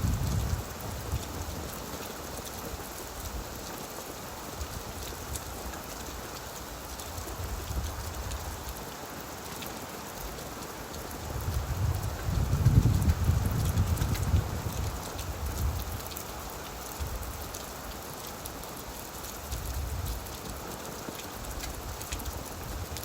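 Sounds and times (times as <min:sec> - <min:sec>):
rain falling on leaves: 0:00.0 - 0:23.0.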